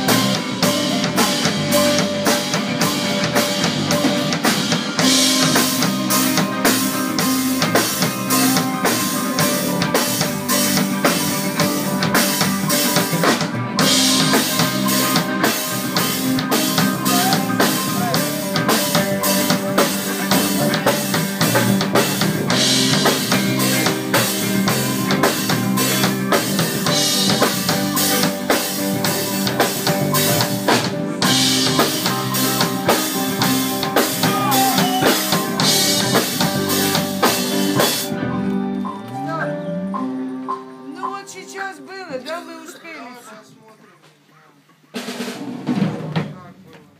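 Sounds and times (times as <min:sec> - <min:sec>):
drum kit steady beat: 0:00.0 - 0:38.7, 0:44.9 - 0:46.7
band playing a song: 0:00.0 - 0:43.0, 0:44.8 - 0:46.9.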